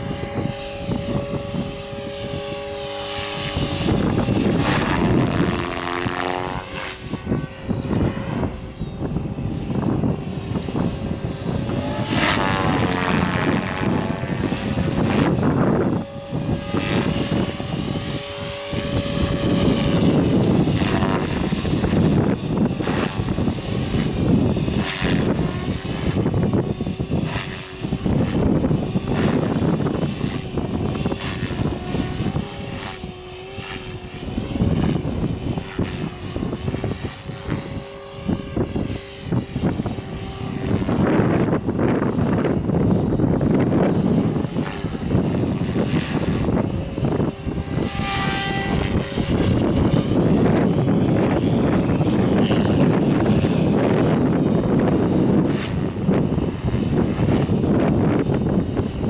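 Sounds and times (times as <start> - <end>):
rc helicopter rotor whine: 0.0 - 59.0
wind buffeting microphone: 0.0 - 59.0.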